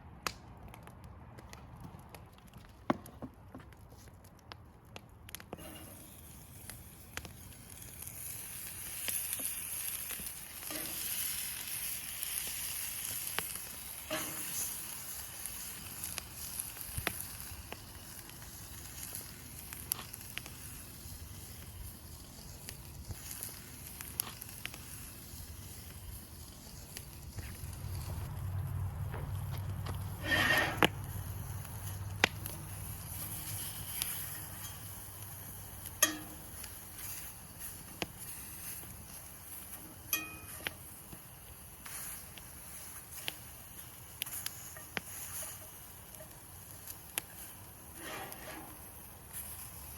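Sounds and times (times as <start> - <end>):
fire popping and crackling: 0.0 - 49.9
meat sizzling in a skillet: 5.6 - 28.0, 30.2 - 49.9.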